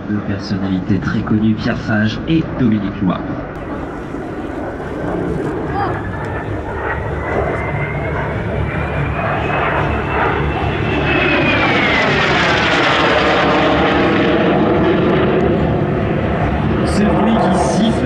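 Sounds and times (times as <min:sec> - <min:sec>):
jet flying past: 0:00.0 - 0:18.0.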